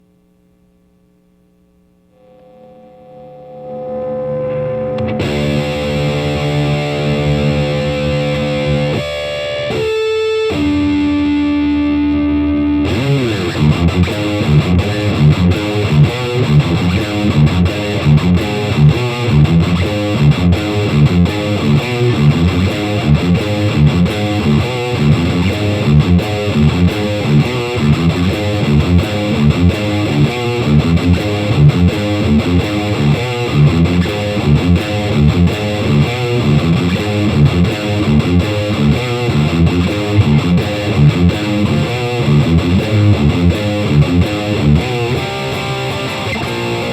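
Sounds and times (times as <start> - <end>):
electric guitar playing: 2.1 - 46.9.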